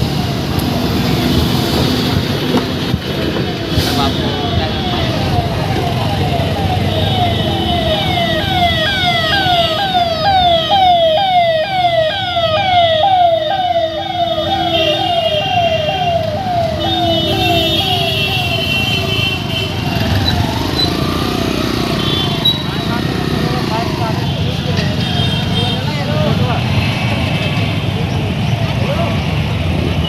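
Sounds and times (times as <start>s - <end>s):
emergency vehicle siren: 0.0s - 24.4s
road traffic noise: 0.0s - 30.0s.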